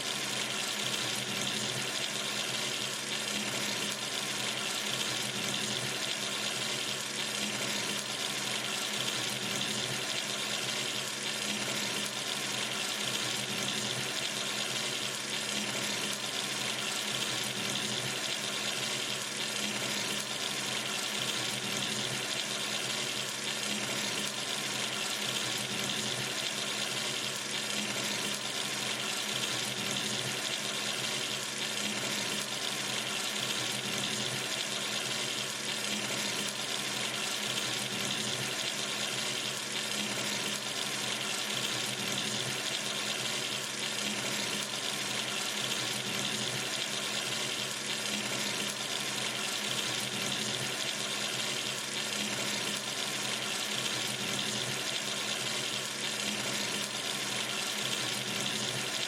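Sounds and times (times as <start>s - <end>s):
water running from sink tap: 0.0s - 59.0s.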